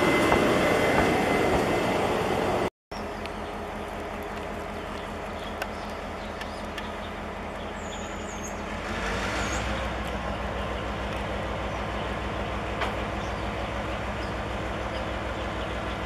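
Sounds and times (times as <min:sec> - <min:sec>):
locomotive engine humming: 0:00.0 - 0:16.0.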